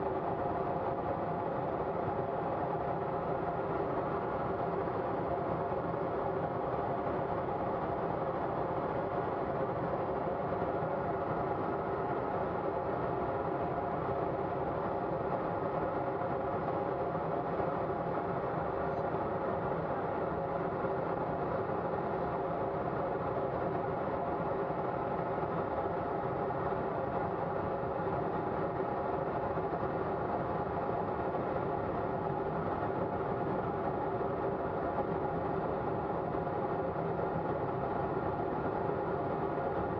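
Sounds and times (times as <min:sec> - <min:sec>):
jet engine noise in cockpit: 0:00.0 - 0:39.9.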